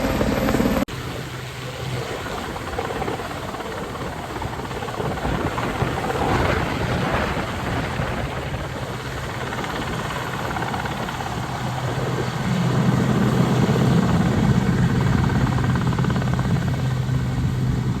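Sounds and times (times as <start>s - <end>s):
helicopter engines humming: 0.0s - 18.0s
helicopter rotor beat: 0.0s - 18.0s.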